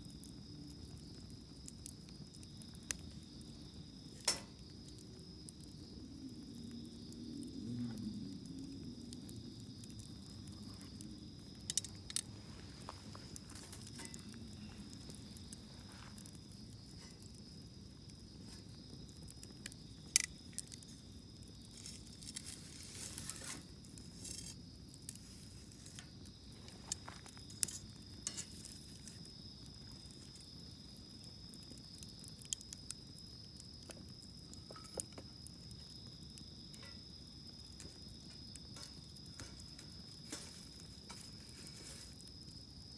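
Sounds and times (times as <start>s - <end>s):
campfire crackling and popping: 0.0s - 42.9s
insects chirring: 0.0s - 42.9s.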